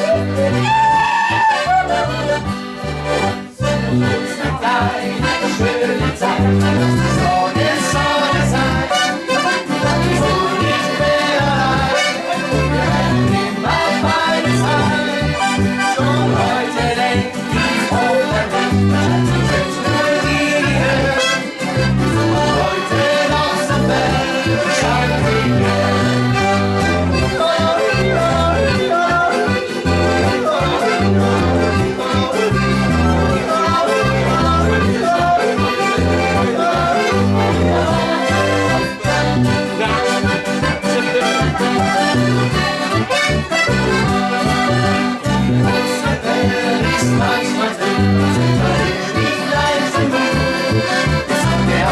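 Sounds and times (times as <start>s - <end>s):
folk-pop band with accordion: 0.0s - 51.9s
bass on steady beat: 1.7s - 8.9s, 12.6s - 46.2s, 48.0s - 51.9s.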